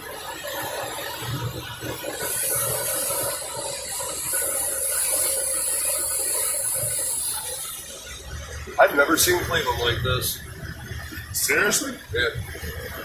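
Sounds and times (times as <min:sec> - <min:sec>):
motorboat engine running: 0:00.0 - 0:13.0.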